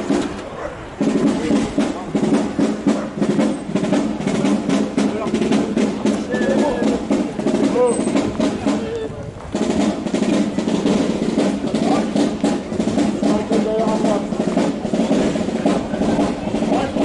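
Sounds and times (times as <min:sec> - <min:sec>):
snare drum roll: 0:00.0 - 0:17.0
bass drum beat: 0:01.0 - 0:17.0.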